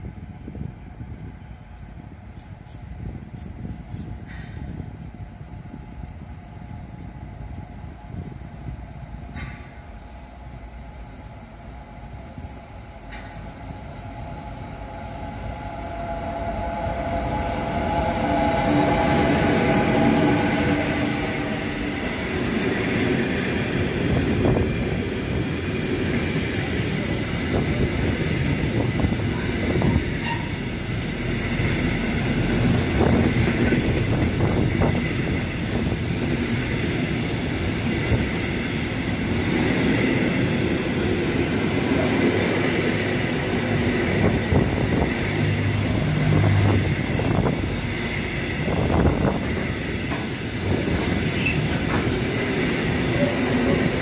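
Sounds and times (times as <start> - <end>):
electric locomotive hum: 0.0 - 54.0.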